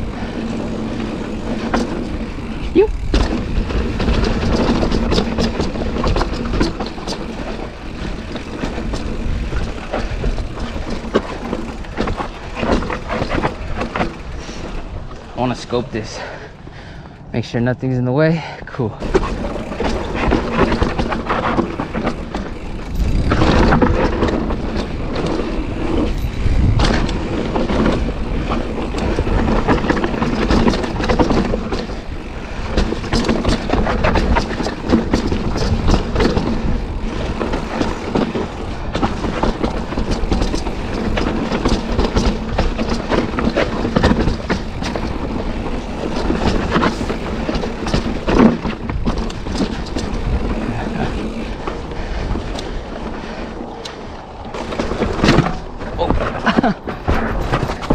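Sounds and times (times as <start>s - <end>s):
bike rattling over rocks: 0.0s - 16.5s, 18.8s - 57.9s
bike tyres on loose dirt: 0.0s - 17.6s, 18.2s - 57.9s.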